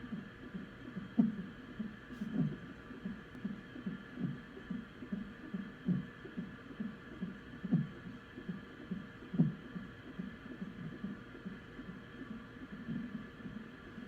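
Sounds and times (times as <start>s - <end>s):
fast heartbeat-like pulse: 0.0s - 14.0s.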